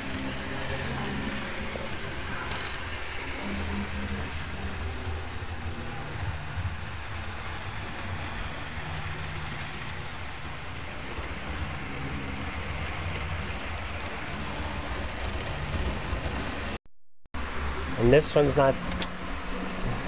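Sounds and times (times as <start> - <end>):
wheels rumbling on track: 0.0 - 16.8, 17.4 - 20.0.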